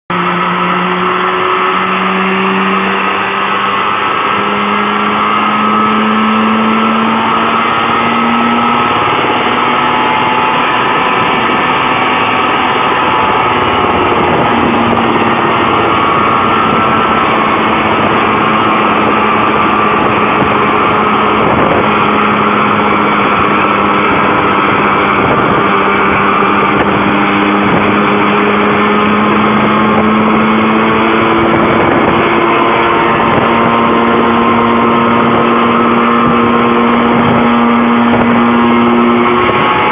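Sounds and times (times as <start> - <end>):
helicopter engine running: 0.1 - 39.9.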